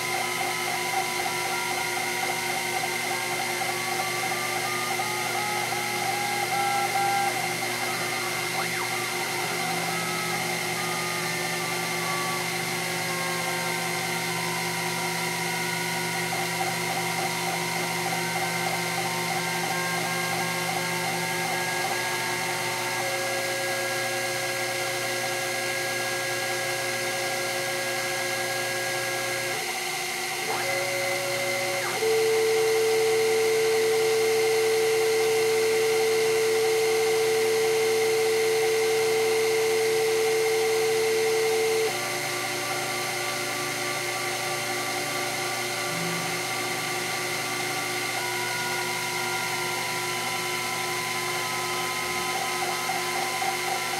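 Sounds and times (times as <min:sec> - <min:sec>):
held pitched motor tones: 0:00.0 - 0:53.9
milling machine motor whine: 0:00.0 - 0:53.9.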